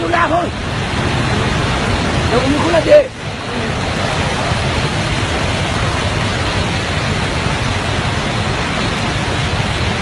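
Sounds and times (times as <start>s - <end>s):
wind and rain roaring: 0.0s - 10.0s
wind rumbling on microphone: 0.0s - 10.0s.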